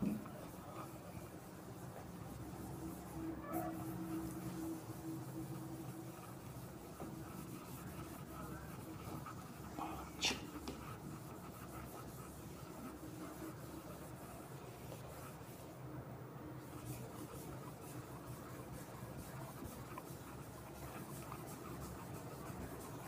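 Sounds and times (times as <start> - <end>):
whiteboard being wiped: 0.0 - 15.8, 16.6 - 23.0.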